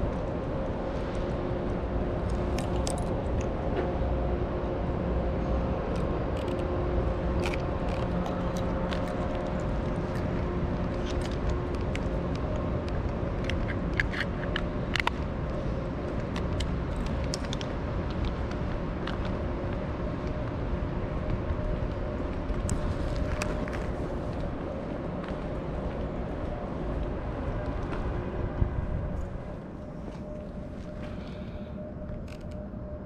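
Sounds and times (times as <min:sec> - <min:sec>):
constant mechanical hum: 0:00.0 - 0:33.0
low rumble: 0:00.0 - 0:33.0.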